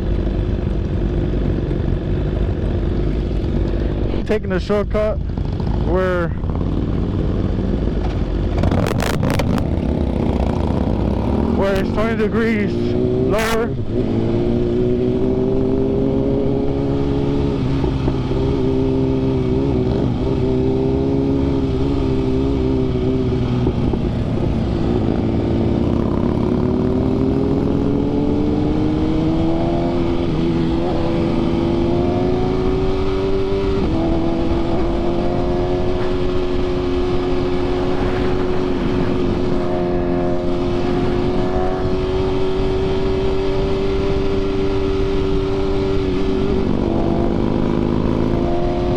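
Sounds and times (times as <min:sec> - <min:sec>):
motorcycle engine at speed: 0:00.0 - 0:48.9
wind rushing across microphone: 0:00.0 - 0:48.9.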